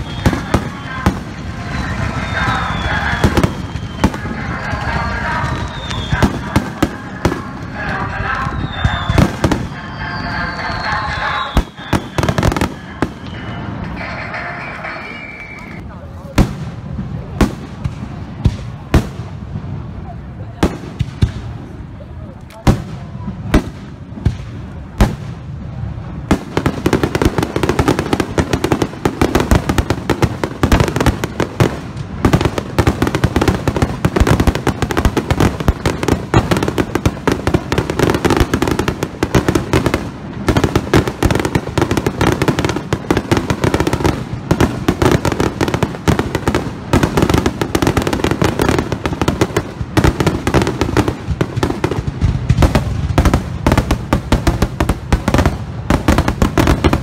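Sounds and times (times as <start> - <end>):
firework crackling: 0.0 - 57.0.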